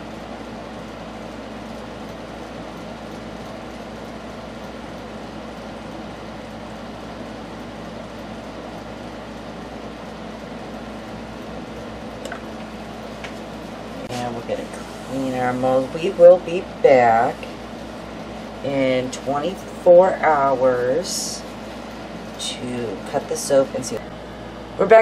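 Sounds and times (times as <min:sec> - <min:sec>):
room hum and hiss: 0:00.0 - 0:25.0.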